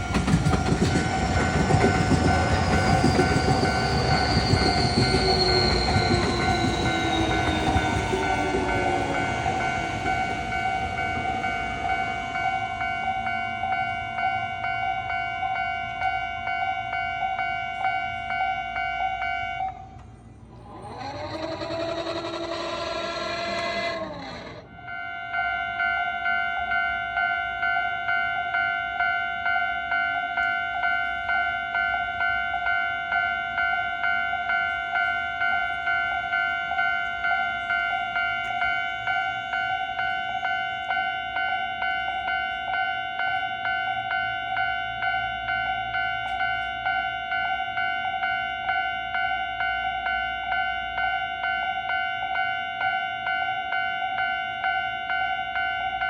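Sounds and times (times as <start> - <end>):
level crossing warning bell: 0.0 - 21.7, 24.3 - 56.0.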